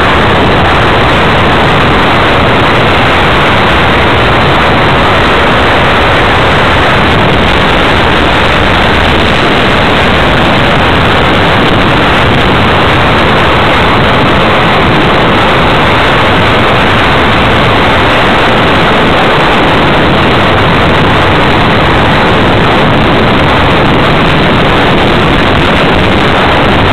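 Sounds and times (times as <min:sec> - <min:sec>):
loud steady hiss: 0:00.0 - 0:26.9.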